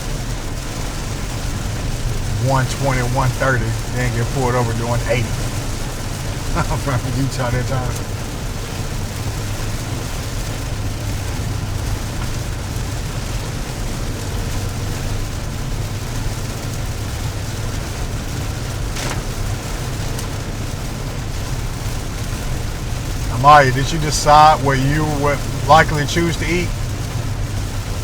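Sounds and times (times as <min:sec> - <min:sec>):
car driving rumble and hiss: 0:00.0 - 0:28.0.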